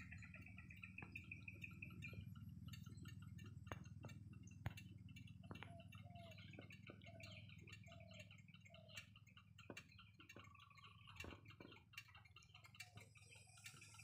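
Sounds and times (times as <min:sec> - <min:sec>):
faint birds chirping: 0:00.0 - 0:14.0
steady low hum: 0:00.0 - 0:14.0.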